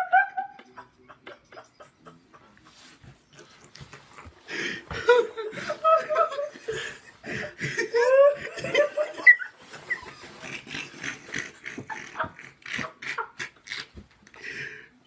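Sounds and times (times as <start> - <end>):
people laughing: 0.0 - 14.6.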